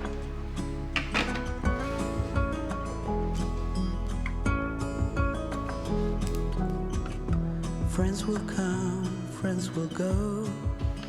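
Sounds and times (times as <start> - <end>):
instrumental pop music with beat: 0.0 - 11.0.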